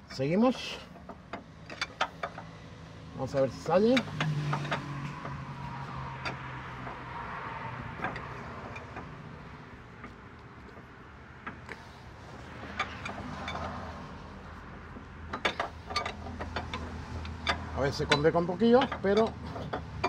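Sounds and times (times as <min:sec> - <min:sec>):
metal clicks and knocks: 0:00.9 - 0:02.6, 0:03.2 - 0:07.2, 0:07.9 - 0:13.9, 0:14.8 - 0:20.0.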